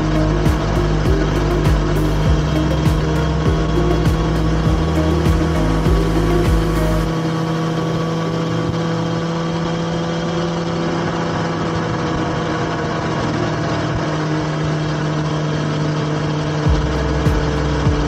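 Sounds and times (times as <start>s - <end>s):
motorcycle engine cruising: 0.0s - 18.0s
wind and road rush: 0.0s - 18.0s.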